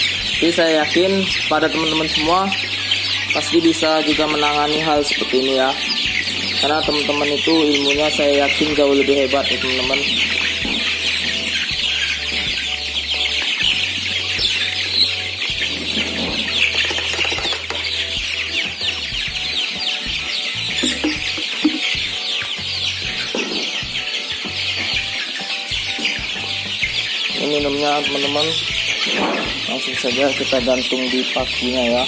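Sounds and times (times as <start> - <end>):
chicks peeping: 0.0 - 32.0.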